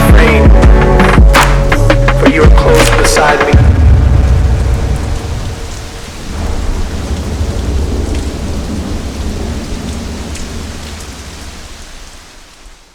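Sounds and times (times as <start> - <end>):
thunder rumbling: 0.0 - 12.1
heavy rain: 0.0 - 12.9.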